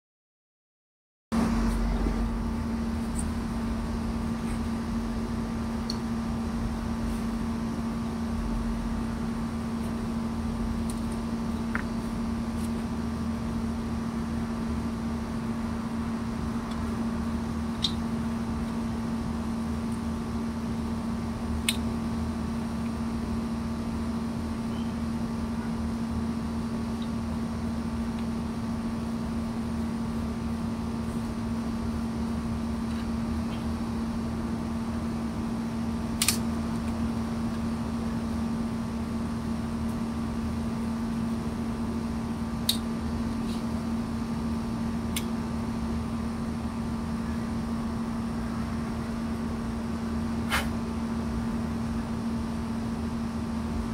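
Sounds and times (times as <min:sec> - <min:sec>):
air conditioner humming: 0:01.4 - 0:53.9.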